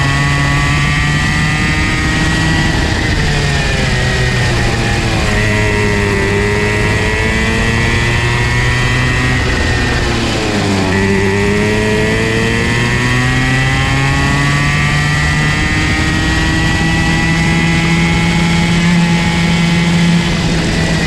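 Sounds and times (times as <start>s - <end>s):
kart engine revving: 0.0s - 21.0s.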